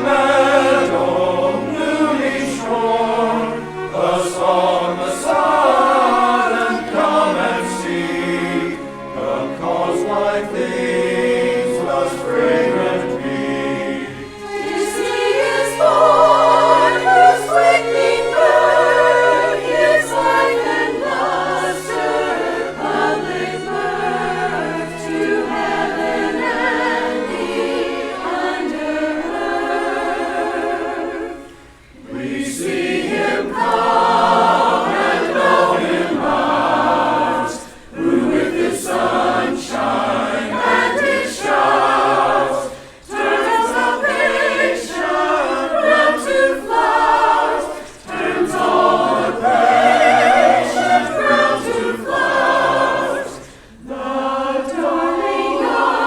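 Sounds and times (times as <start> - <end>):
church choir singing a carol: 0.0 - 56.0.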